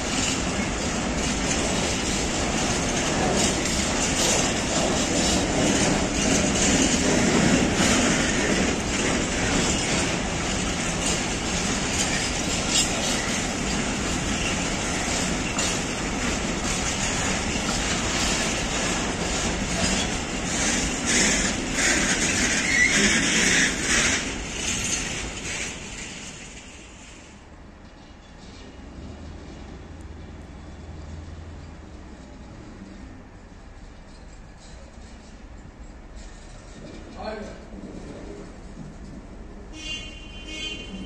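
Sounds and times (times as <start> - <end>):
freight train rolling past: 0.0 - 41.0
wheels clattering on rails: 0.0 - 41.0.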